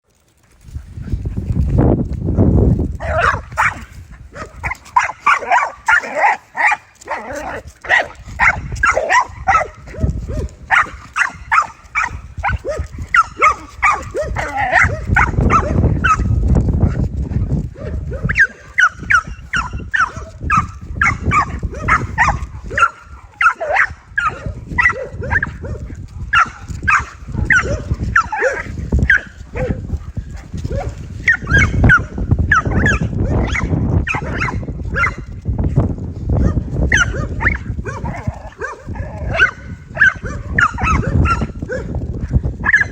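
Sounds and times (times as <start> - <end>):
dog barking: 3.0 - 16.4, 17.7 - 35.3, 36.4 - 42.0, 42.6 - 42.9.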